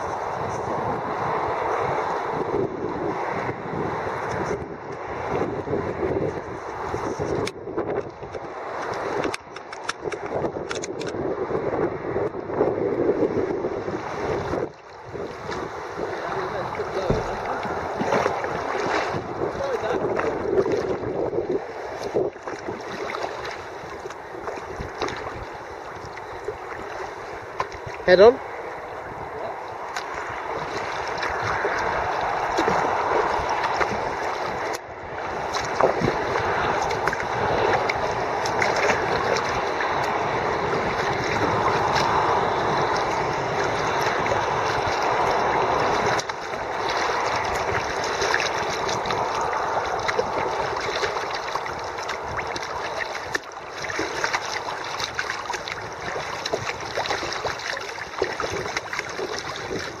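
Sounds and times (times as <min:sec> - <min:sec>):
river water rushing: 0:00.0 - 0:07.4, 0:08.0 - 0:10.2, 0:13.2 - 1:00.0
paddle splashes and drips: 0:00.0 - 0:10.5, 0:13.9 - 1:00.0.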